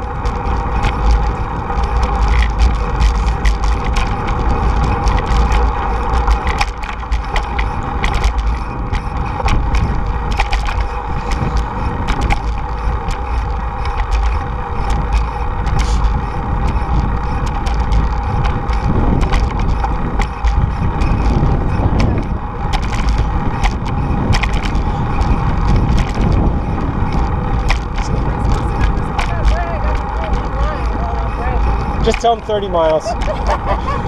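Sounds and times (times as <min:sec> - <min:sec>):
bike rattling and clicking: 0:00.0 - 0:34.0
tyres rolling on pavement: 0:00.0 - 0:34.0
wind buffeting microphone: 0:00.0 - 0:34.0.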